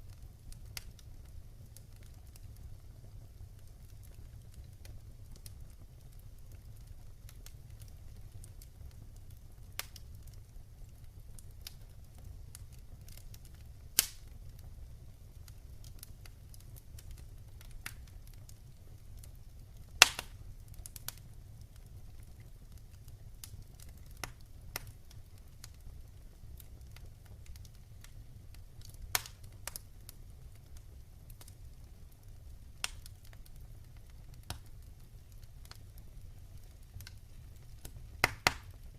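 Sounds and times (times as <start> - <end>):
fire crackling and popping: 0.0 - 38.9
low fire rumble: 0.0 - 38.9.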